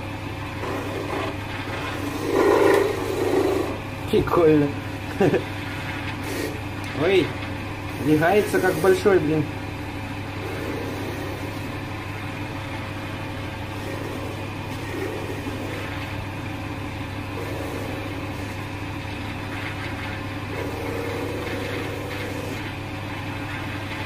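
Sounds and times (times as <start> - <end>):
chisel cutting spinning wood: 0.0 - 24.0
wood lathe motor hum: 0.0 - 24.0.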